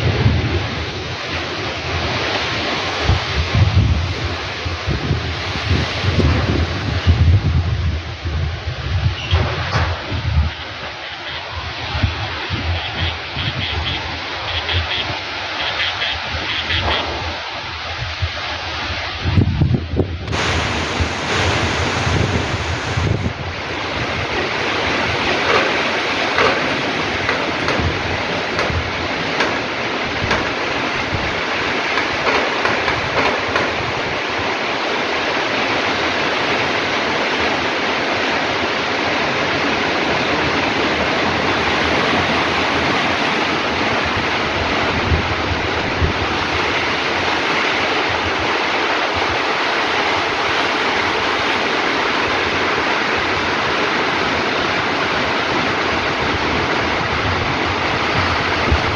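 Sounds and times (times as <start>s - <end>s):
wind buffeting microphone: 0.0s - 15.4s, 16.0s - 37.8s, 38.4s - 58.9s
heavy rain pouring: 0.0s - 58.9s
strong wind: 0.0s - 58.9s.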